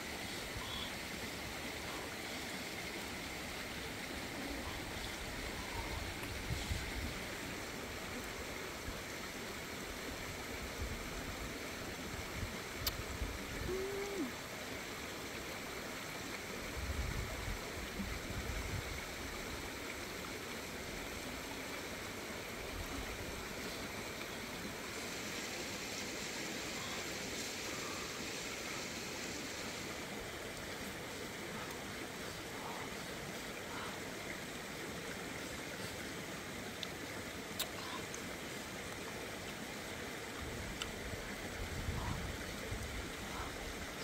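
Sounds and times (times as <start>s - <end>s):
stream flowing: 0.0s - 44.0s.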